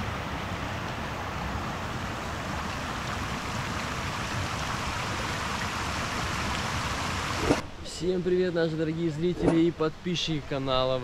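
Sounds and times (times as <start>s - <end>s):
stream water rushing: 0.0s - 10.7s.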